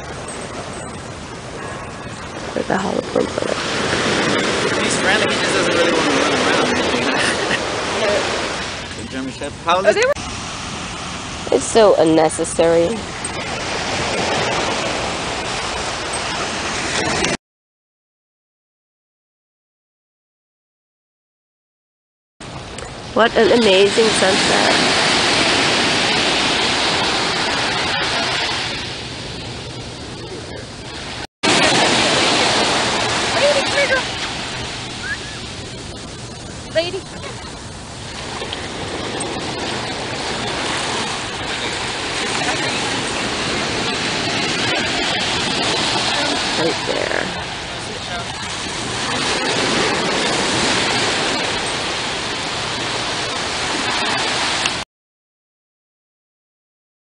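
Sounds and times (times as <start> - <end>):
small waves breaking on beach: 0.0 - 17.4, 22.4 - 54.8.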